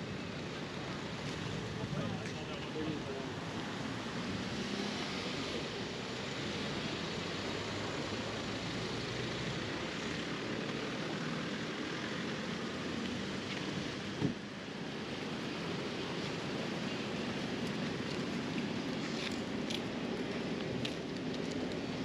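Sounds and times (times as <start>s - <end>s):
rushing street ambience: 0.0s - 22.0s.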